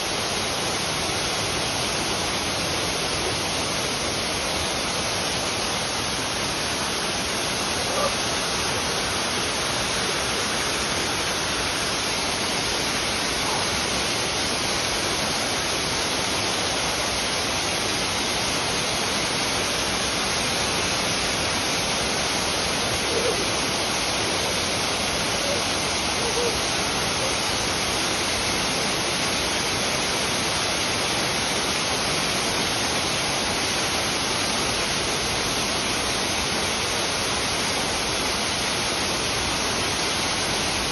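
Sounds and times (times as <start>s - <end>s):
waterfall roar: 0.0s - 40.9s.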